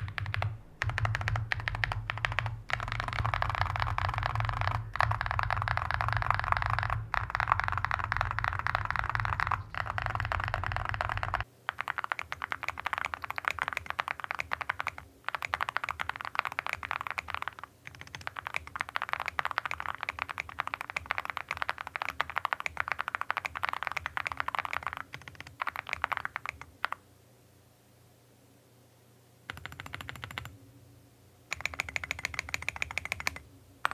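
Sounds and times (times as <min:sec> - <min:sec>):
fast typing on mechanical keyboard: 0:00.0 - 0:27.0, 0:29.5 - 0:30.5, 0:31.5 - 0:33.9.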